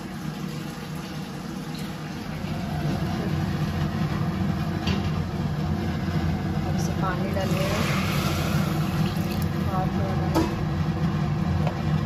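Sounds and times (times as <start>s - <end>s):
water running into a steel vessel: 0.0s - 11.0s
low motor hum: 0.0s - 12.0s.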